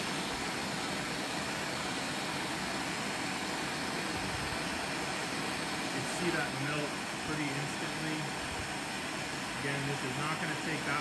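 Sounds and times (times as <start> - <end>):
gas torch hissing: 0.0 - 11.0.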